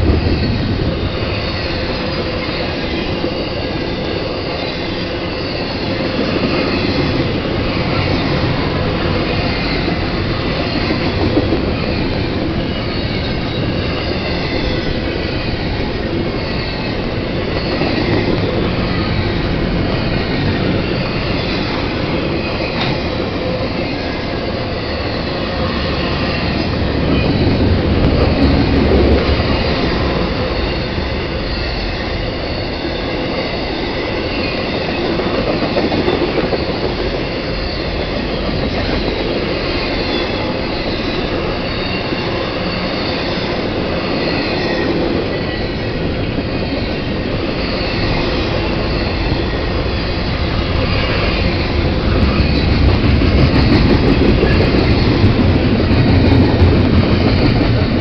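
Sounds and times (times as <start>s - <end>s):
faint high wheel squeal: 0.0s - 58.0s
steel wheels rumbling on rail: 0.0s - 58.0s.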